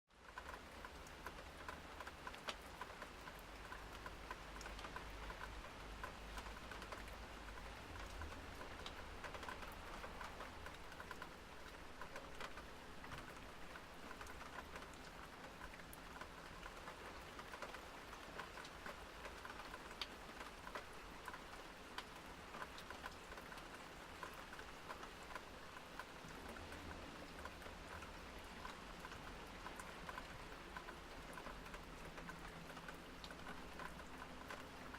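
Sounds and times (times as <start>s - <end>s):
raindrops ticking on hard surfaces: 0.1s - 34.9s.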